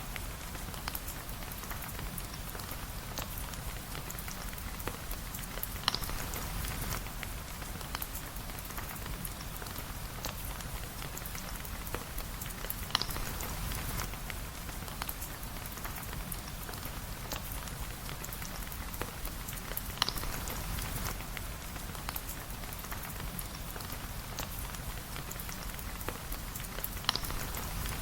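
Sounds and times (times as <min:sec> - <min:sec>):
steady rain: 0:00.0 - 0:28.0
small crackles: 0:00.1 - 0:28.0.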